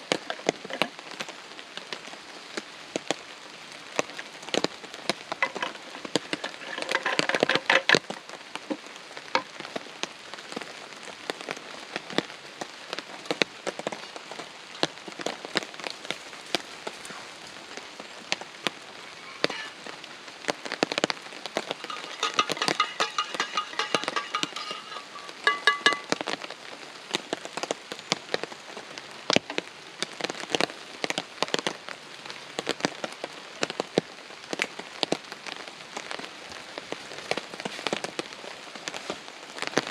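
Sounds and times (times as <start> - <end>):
heavy rain on a tarp: 0.0 - 39.9.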